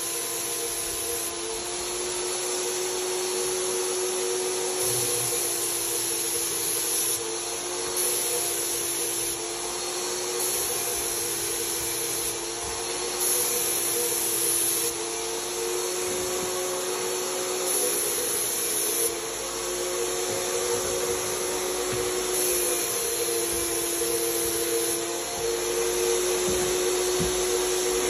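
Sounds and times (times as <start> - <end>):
paint sprayer turbine whine: 0.0 - 28.0
spray gun hiss: 0.0 - 28.0.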